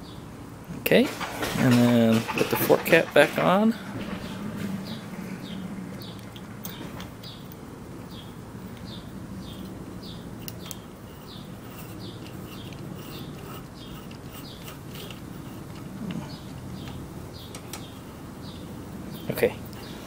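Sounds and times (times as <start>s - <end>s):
low steady hum: 0.0s - 20.0s
bird chirping: 1.9s - 20.0s.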